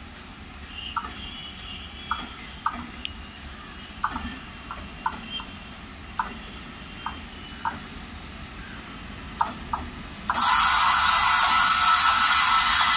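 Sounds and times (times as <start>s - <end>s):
train approaching with low rumble: 0.0s - 12.9s
sharp clicks of train wheels: 0.1s - 3.2s, 4.0s - 5.5s, 6.2s - 7.9s, 8.7s - 12.9s.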